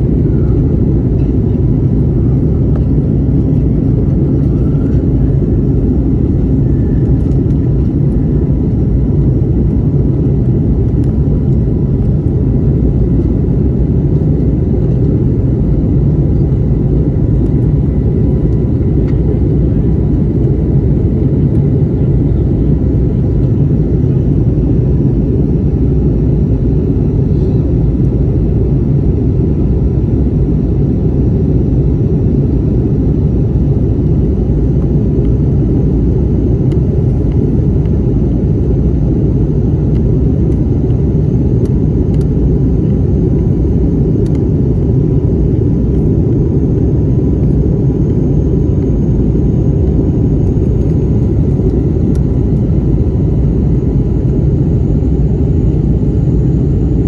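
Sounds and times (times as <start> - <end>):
faint steady whine: 0.0 - 57.0
jet engine and airflow drone: 0.0 - 57.0.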